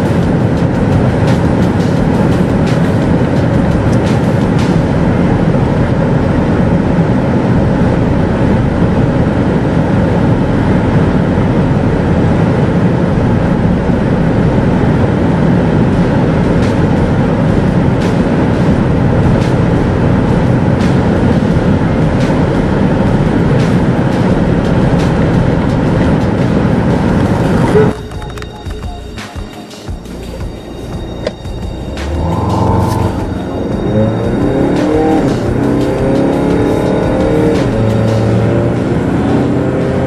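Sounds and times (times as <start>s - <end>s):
wind and tyre noise inside car: 0.0s - 29.2s, 30.1s - 40.0s
diesel engine drone: 0.0s - 40.0s.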